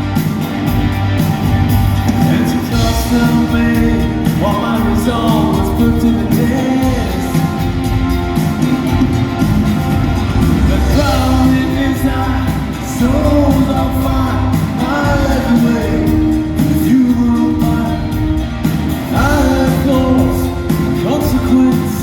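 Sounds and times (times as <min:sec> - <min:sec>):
live rock band with vocals: 0:00.0 - 0:22.0.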